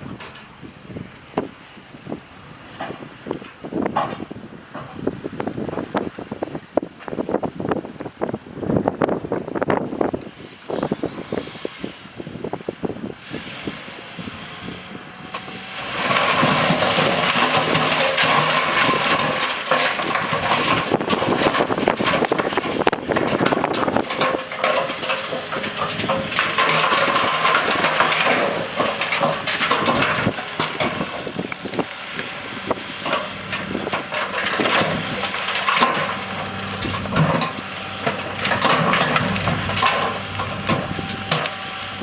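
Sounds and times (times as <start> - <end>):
machinery engine under load: 0.0 - 42.0
soil and rock crunching: 0.0 - 42.0.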